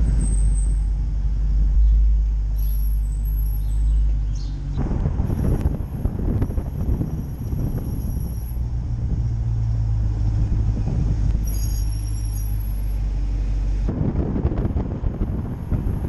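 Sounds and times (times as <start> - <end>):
low engine drone: 0.0 - 16.0
road and tyre noise: 0.0 - 16.0.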